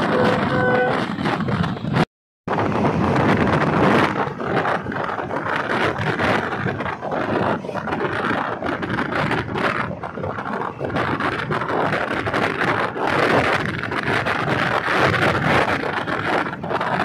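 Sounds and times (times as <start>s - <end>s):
train wheels rattling on rails: 0.0s - 17.0s
wind: 0.0s - 17.0s.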